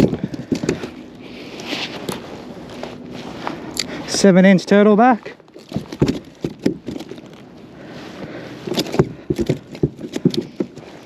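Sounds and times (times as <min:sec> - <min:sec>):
knocks and scrapes handling fish: 0:00.0 - 0:04.0, 0:05.4 - 0:11.0.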